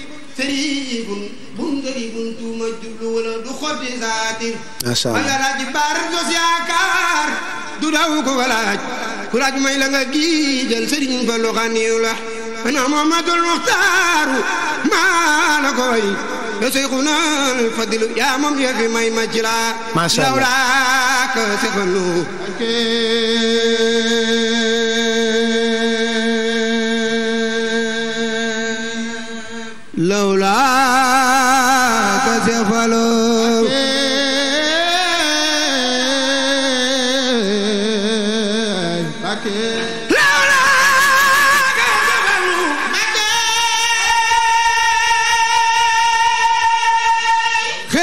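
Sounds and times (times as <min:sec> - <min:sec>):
man chanting: 0:00.0 - 0:48.0.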